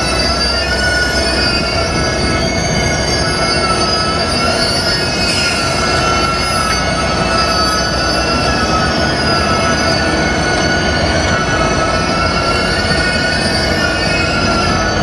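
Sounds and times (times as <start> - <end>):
train running noise: 0.0 - 15.0
train wheels squealing on rails: 0.0 - 15.0.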